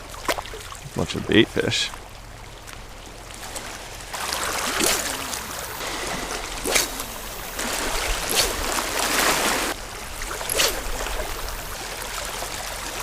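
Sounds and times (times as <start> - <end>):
seawater splashing on rocks: 1.9 - 13.0.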